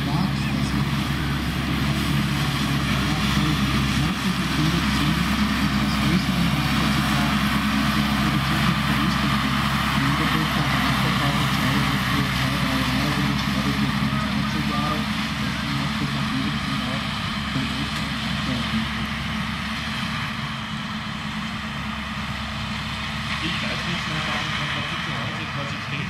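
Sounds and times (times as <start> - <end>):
tractor engine under load: 0.0 - 26.0.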